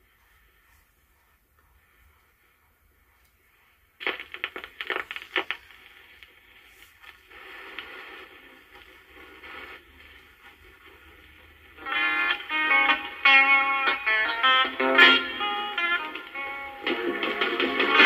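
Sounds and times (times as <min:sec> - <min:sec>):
record surface hiss: 0:00.0 - 0:18.0
vinyl crackles and pops: 0:01.6 - 0:18.0.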